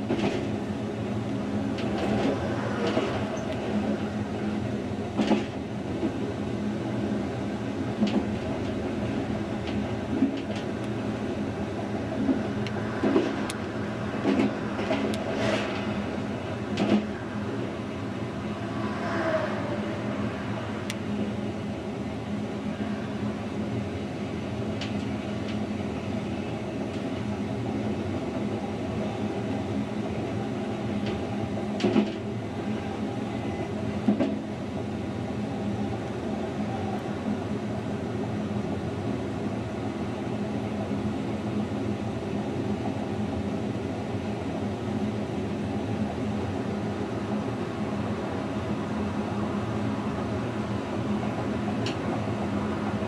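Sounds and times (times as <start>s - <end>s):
train rolling rumble: 0.0s - 53.0s.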